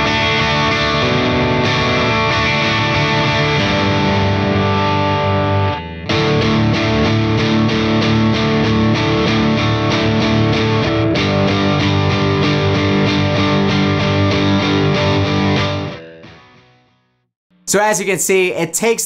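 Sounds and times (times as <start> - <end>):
overdriven electric guitar chords: 0.0 - 17.7.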